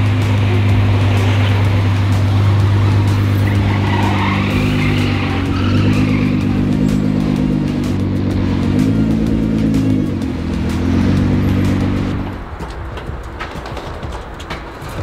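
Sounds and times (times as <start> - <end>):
car engine running at low revs: 0.0 - 13.2.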